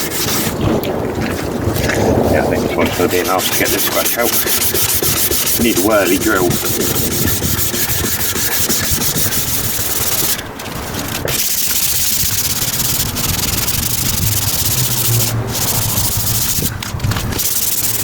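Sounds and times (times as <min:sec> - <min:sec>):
sandpaper rubbing on plastic: 0:00.0 - 0:18.0.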